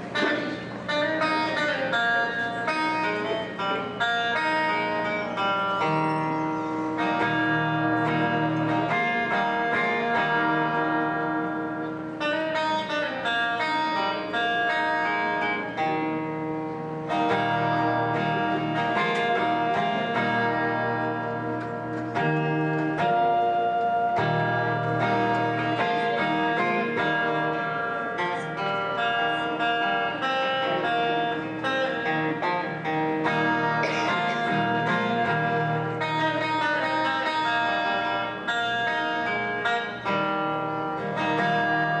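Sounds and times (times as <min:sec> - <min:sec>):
solo acoustic guitar: 0:00.0 - 0:42.0.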